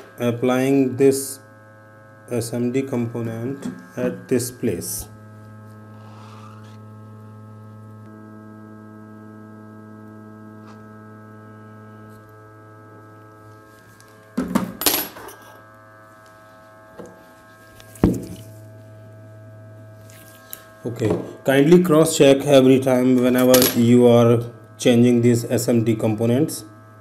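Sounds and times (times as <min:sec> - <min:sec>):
hot air station electric hum: 0:00.0 - 0:27.0.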